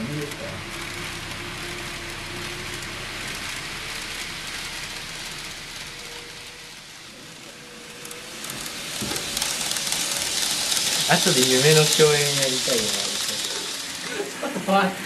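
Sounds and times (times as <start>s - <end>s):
faint motor whine: 0.0s - 15.0s
model train wheels rattling: 0.0s - 15.0s.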